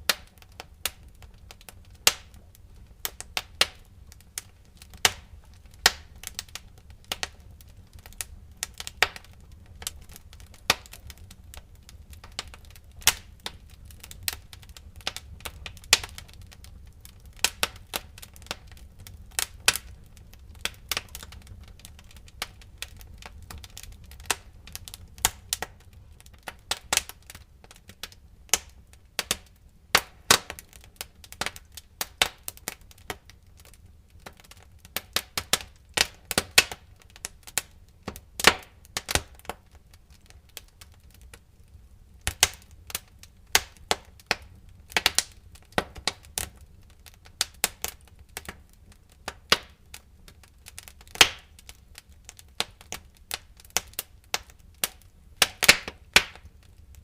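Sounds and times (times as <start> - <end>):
low rumble of burning: 0.0 - 57.0
wood fire crackling and popping: 0.0 - 57.0.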